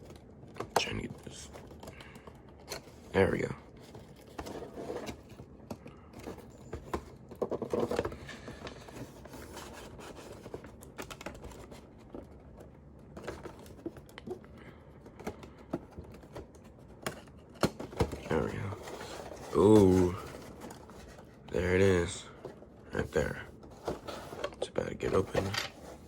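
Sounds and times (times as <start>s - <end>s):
cardboard and plastic rustling: 0.0s - 26.0s.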